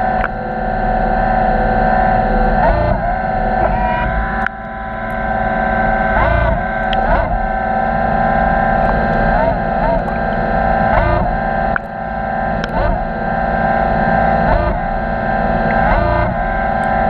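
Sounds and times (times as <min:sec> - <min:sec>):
electric motors whining: 0:00.0 - 0:17.0
low electrical hum: 0:00.0 - 0:17.0.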